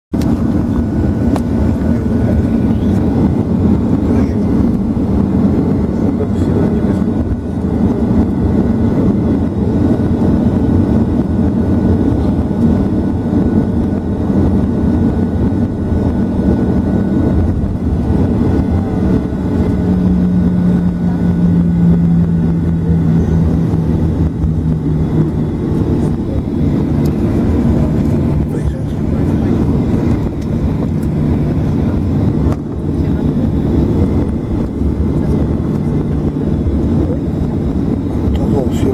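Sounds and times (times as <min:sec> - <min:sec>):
jet engines rumbling: 0:00.1 - 0:38.9
low hum: 0:00.2 - 0:38.9.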